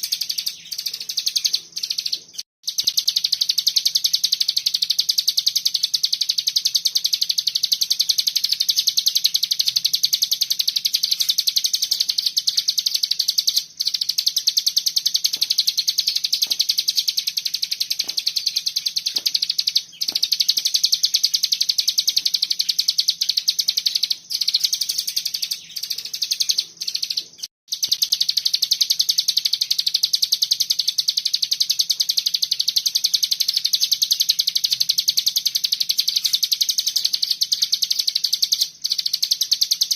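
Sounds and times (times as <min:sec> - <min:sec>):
songbird rattling trill: 0:00.0 - 0:39.9.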